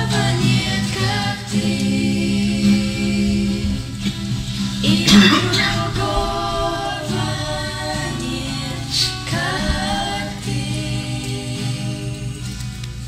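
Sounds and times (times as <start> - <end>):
family singing unaccompanied: 0.0 - 13.0.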